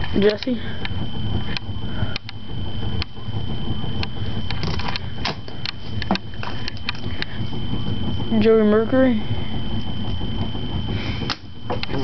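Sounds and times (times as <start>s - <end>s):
steady low rumble: 0.0s - 12.0s
thin high whine: 0.0s - 12.0s.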